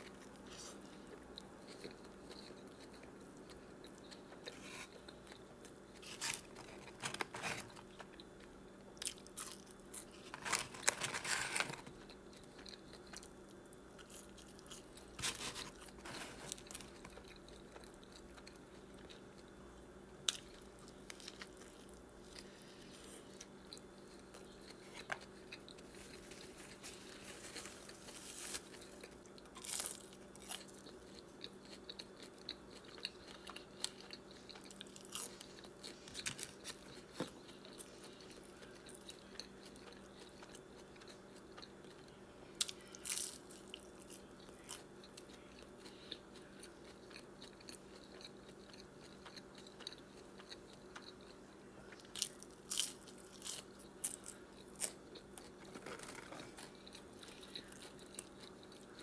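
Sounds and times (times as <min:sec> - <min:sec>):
chewing and biting food: 0:00.0 - 0:19.6, 0:20.2 - 0:59.0
faint steady hum: 0:00.0 - 0:59.0.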